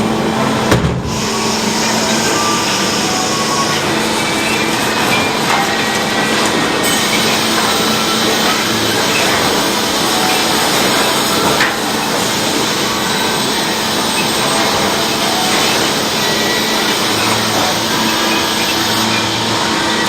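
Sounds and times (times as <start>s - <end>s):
saw cutting a log: 1.1s - 20.0s.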